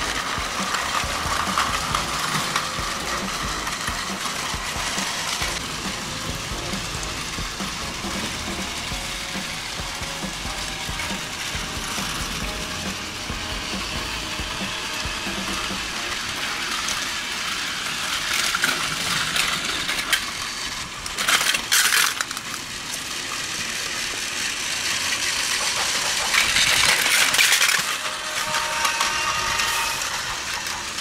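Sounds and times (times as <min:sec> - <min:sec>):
plastic wheels rattling on track: 0:00.0 - 0:31.0
toy train motor whir: 0:00.0 - 0:31.0.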